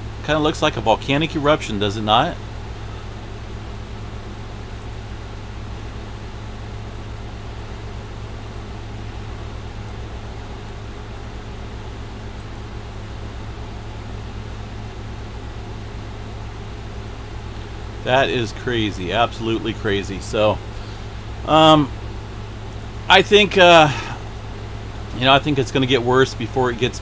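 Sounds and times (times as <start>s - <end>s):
fan or air conditioner drone: 0.0s - 27.0s.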